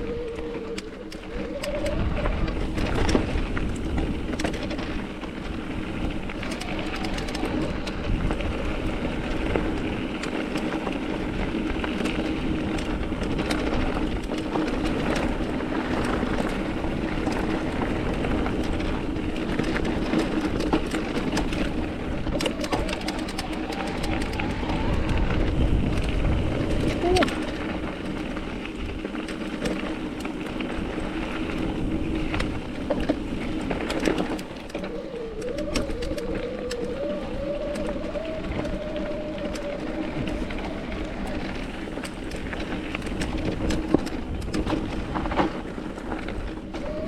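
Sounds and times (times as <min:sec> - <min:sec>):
bike clicks and rattles: 0:00.0 - 0:47.0
bike tyres crunching over gravel: 0:00.0 - 0:47.0
wind on microphone: 0:00.0 - 0:47.0.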